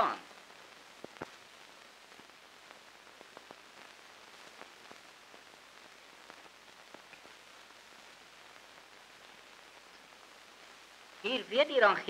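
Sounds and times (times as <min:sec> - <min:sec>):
film soundtrack hiss and crackles: 0:00.0 - 0:12.0.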